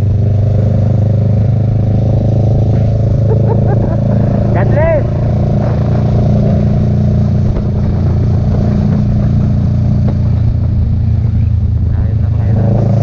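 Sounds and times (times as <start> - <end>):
motorcycle engine cruising: 0.0 - 13.0
road and wind noise: 0.0 - 13.0.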